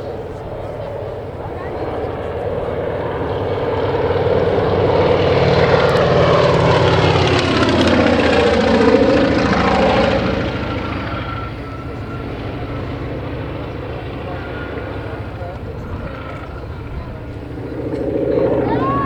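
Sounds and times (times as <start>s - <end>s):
propeller plane flying past: 0.0s - 19.0s.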